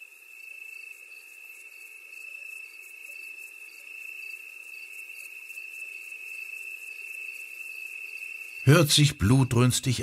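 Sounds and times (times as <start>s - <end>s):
high-pitched insect trill: 0.0s - 8.7s.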